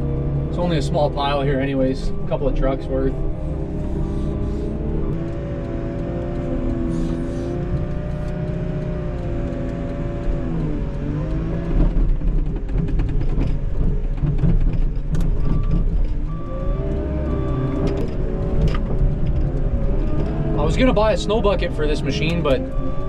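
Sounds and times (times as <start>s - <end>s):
wheel loader diesel engine: 0.0s - 23.0s.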